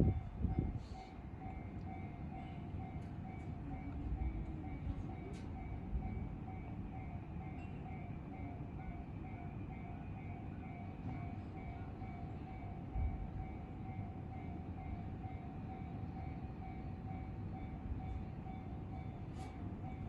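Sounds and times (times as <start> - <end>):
level-crossing alarm bell ringing: 0.0 - 20.0.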